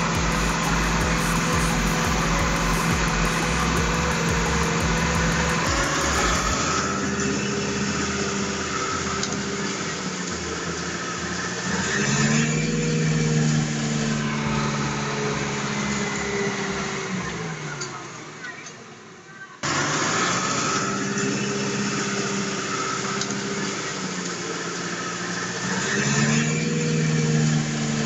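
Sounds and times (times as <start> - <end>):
toy truck motor humming: 0.0 - 18.8, 19.6 - 28.0.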